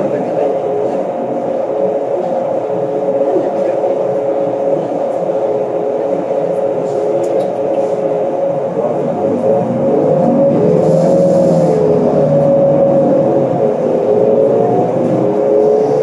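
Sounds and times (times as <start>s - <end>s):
bus engine whine and rumble: 0.0s - 16.0s.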